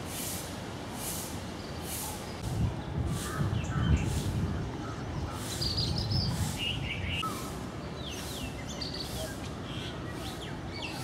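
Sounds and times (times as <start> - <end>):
birds chirping and calling: 1.4 - 11.0.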